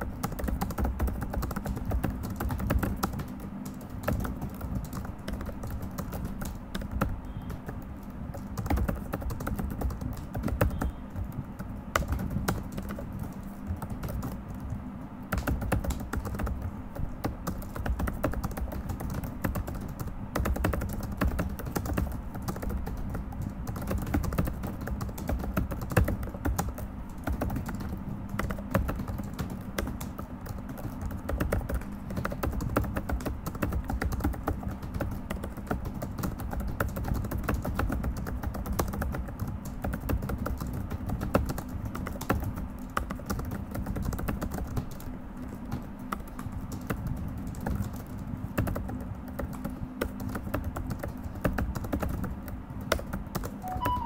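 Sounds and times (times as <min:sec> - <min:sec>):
fast typing on laptop keyboard: 0:00.0 - 0:54.0.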